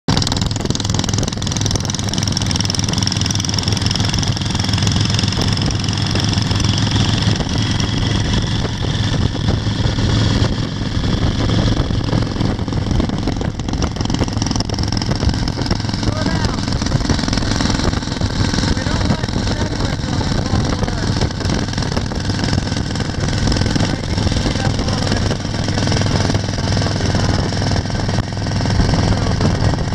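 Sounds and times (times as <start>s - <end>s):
motorcycle engines running: 0.1s - 29.9s
wind and road noise: 0.1s - 29.9s.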